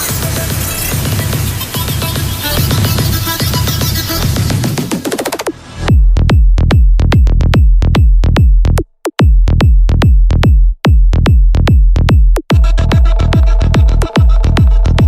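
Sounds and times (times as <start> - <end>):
electronic trance music: 0.0 - 8.5, 11.2 - 15.0
kick drum and bass pattern: 0.0 - 15.0.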